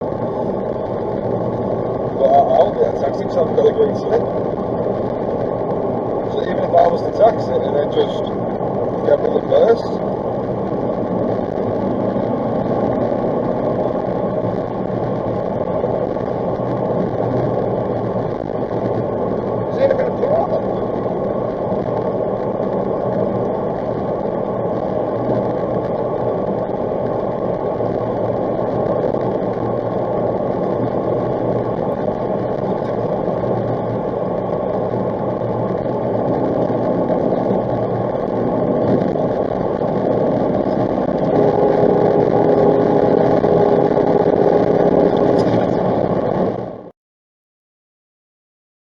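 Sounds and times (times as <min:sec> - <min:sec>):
car engine and road noise: 0:00.0 - 0:46.9
faint steady whine: 0:00.0 - 0:46.9.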